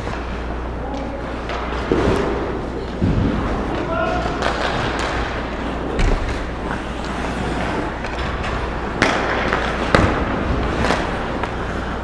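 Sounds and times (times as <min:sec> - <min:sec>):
skate blades scraping ice: 0:01.2 - 0:12.0.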